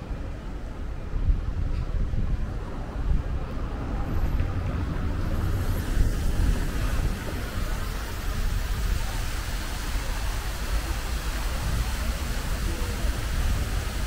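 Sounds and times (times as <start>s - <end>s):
city street rumble: 0.0s - 14.0s.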